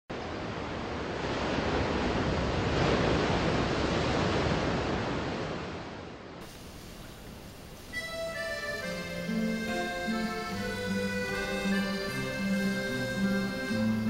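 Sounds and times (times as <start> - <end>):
ocean waves washing in: 0.1 - 14.0.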